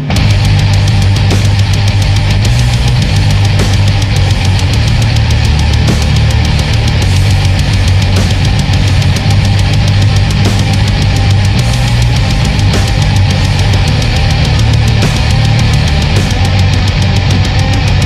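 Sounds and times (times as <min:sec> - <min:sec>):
death metal music: 0:00.0 - 0:18.0.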